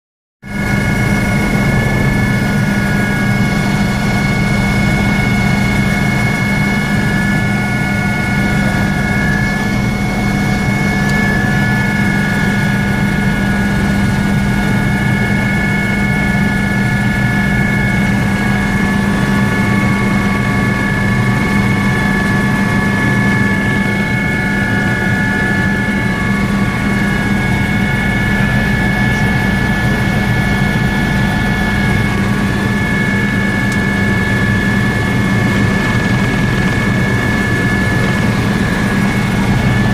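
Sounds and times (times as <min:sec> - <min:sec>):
helicopter engine and rotor drone: 0:00.4 - 0:39.9
high whine: 0:00.4 - 0:39.9.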